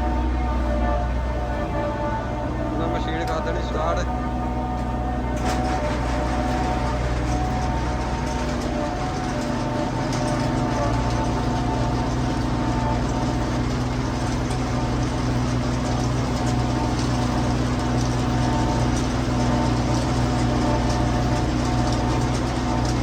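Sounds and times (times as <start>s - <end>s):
feed mixer engine drone: 0.0s - 23.0s.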